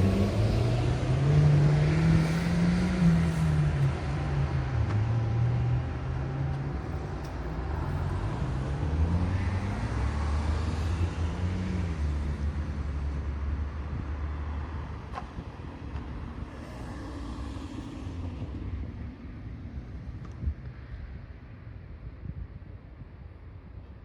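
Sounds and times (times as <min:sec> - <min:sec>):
vehicle engines passing: 0:00.0 - 0:20.0.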